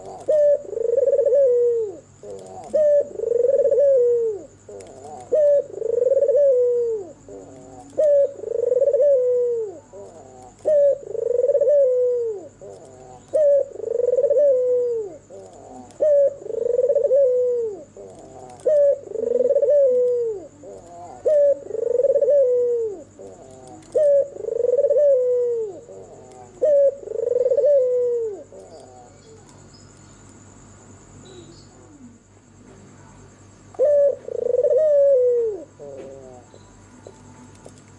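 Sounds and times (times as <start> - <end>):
dove cooing: 0.0 - 29.7, 33.7 - 37.8.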